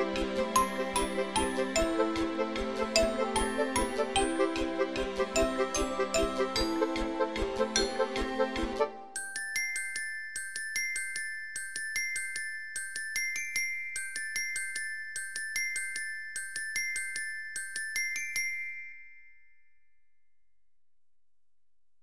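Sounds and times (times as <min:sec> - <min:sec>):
glockenspiel melody: 0:00.0 - 0:19.7.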